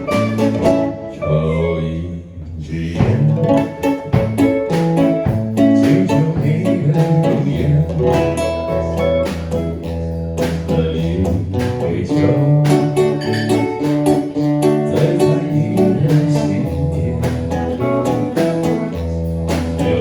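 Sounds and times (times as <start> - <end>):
acoustic and electric guitars: 0.0 - 20.0.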